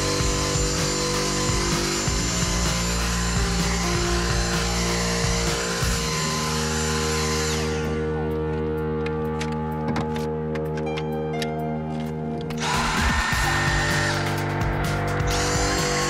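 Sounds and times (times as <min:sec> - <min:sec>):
handheld vacuum whining: 0:00.0 - 0:11.0, 0:12.4 - 0:16.0
background music: 0:00.0 - 0:16.0.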